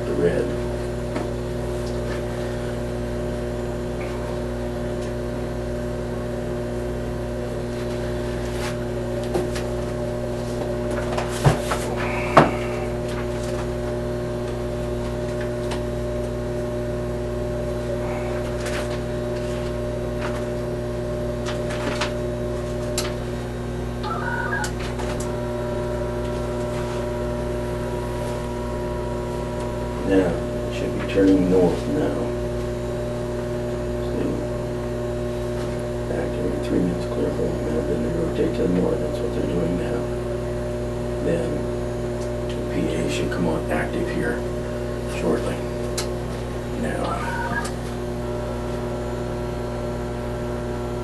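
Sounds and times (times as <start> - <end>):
electrical hum: 0.0 - 51.0.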